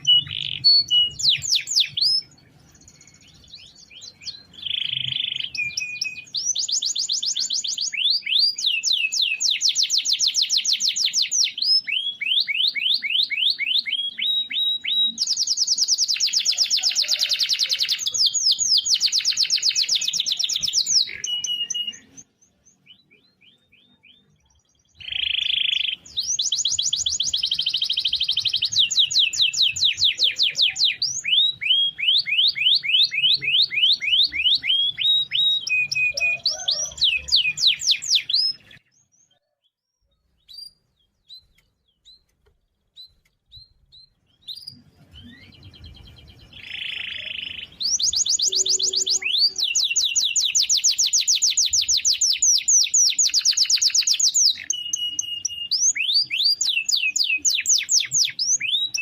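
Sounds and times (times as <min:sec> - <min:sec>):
canary singing rolling trills: 0:00.0 - 0:59.0.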